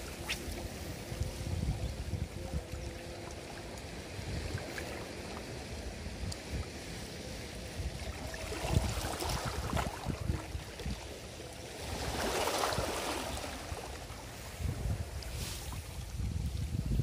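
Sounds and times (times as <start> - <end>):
water lapping at shore: 0.0 - 16.9
wind rumbling on microphone: 0.0 - 17.0.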